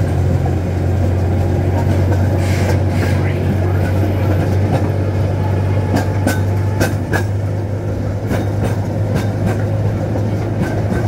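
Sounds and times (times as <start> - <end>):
ride-on train drone: 0.0 - 11.0
wheels clicking over rail joints: 0.0 - 11.0.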